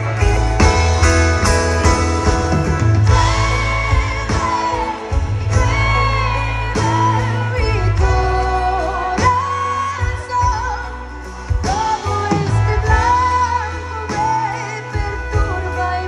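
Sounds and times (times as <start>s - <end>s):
woman singing: 0.0s - 1.2s, 3.0s - 16.0s
electric bass: 0.0s - 16.0s.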